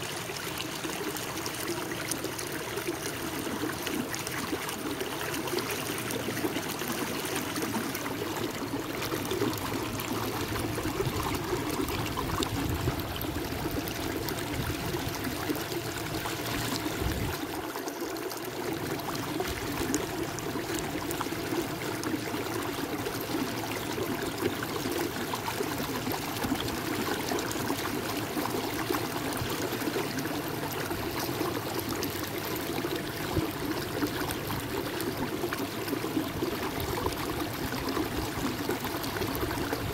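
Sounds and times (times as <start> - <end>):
water lapping against kayak hull: 0.0 - 39.9.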